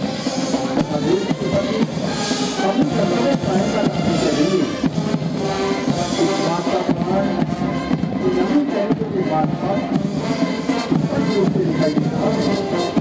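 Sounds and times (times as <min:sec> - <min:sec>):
drums keeping the beat: 0:00.0 - 0:13.0
military band playing a march: 0:00.0 - 0:13.0.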